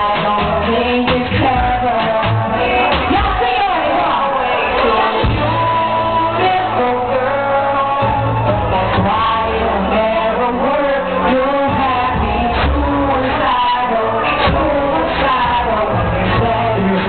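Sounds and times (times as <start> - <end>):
bass line: 0.0 - 17.0
lead singer singing: 0.0 - 17.0
live rock-pop band: 0.0 - 17.0.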